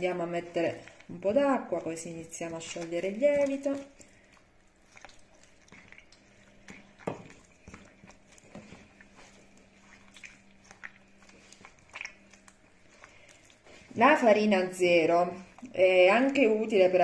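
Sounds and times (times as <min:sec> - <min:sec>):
faint steady hum: 0:00.0 - 0:17.0
wet squishing of dough: 0:00.0 - 0:17.0.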